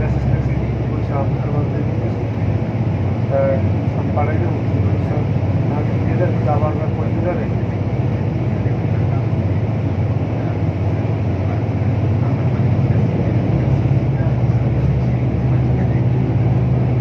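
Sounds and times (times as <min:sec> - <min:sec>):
low hum: 0:00.0 - 0:17.0
road noise: 0:00.0 - 0:17.0
vehicle engine drone: 0:00.0 - 0:17.0.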